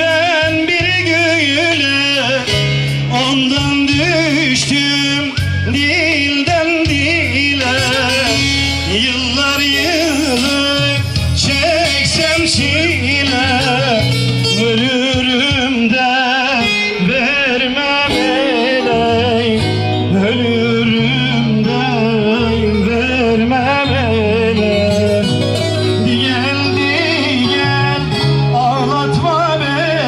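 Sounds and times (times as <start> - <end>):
amplified instrumental backing: 0.0 - 30.0
man singing: 0.0 - 30.0.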